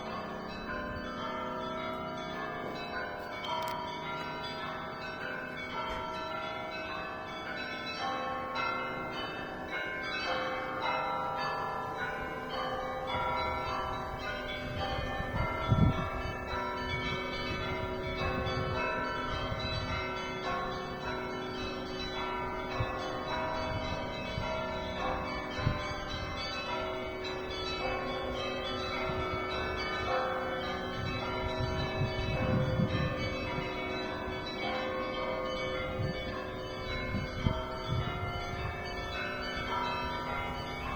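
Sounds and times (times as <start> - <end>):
church bells ringing: 0.0 - 40.9
deep bells ringing: 0.0 - 40.9.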